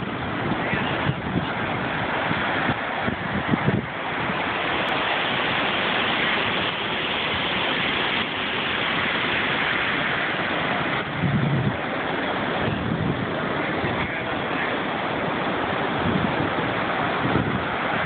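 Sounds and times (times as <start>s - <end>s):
ocean surf breaking on a beach: 0.0s - 18.0s
wind buffeting microphone: 0.0s - 18.0s.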